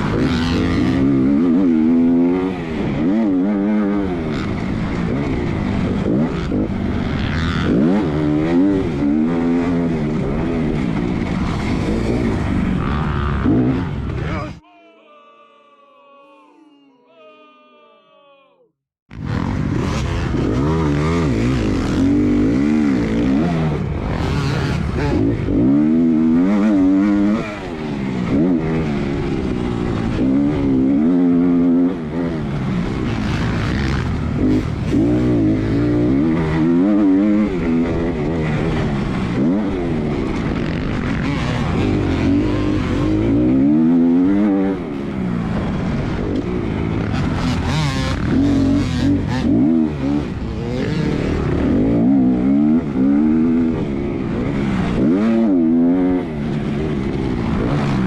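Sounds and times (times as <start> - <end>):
dirt bike engine revving: 0.0 - 14.6, 19.1 - 58.0.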